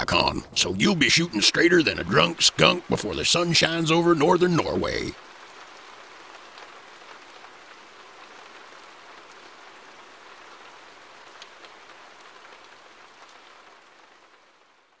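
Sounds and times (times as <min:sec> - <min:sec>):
faint rain-like hiss: 0:00.0 - 0:15.0.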